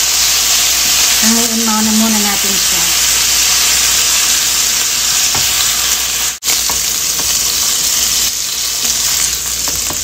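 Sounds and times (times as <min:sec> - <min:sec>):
meat sizzling in hot oil: 0:00.0 - 0:10.0.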